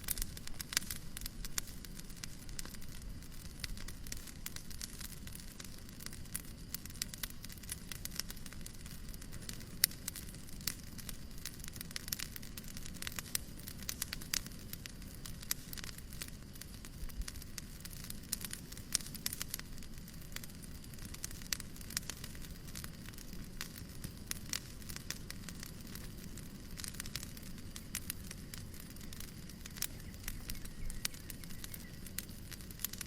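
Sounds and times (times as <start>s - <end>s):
fire pops and snaps: 0.0s - 33.0s
fireplace crackling: 0.0s - 33.0s.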